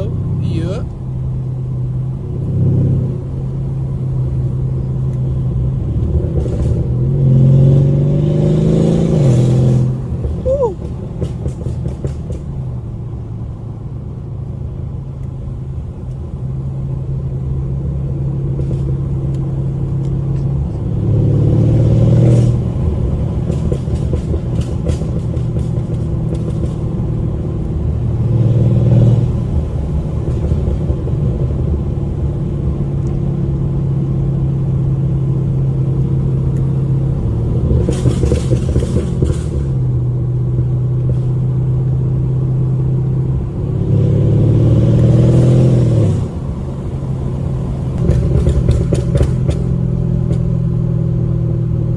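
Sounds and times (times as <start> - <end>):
car exhaust drone: 0.0 - 51.9.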